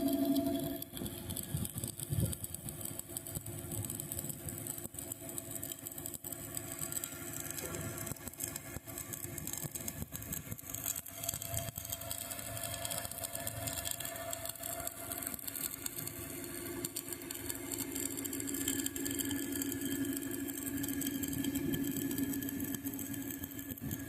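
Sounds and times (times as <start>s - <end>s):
engine running: 0.0s - 3.6s, 4.2s - 24.0s.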